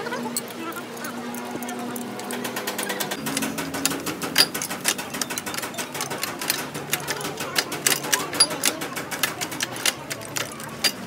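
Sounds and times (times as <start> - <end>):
spanner clicking on bolts: 1.3 - 11.0.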